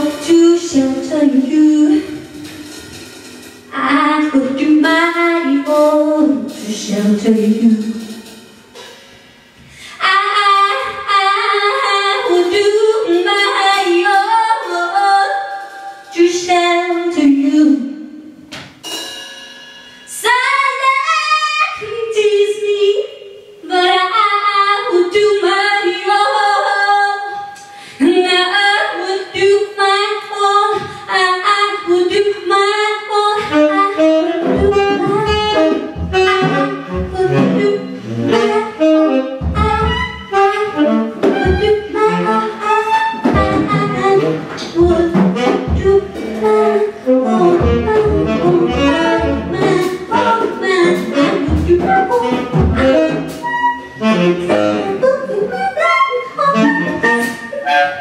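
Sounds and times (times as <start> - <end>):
woman singing jazz: 0.0 - 2.8, 3.7 - 8.3, 9.6 - 18.0, 20.1 - 58.0.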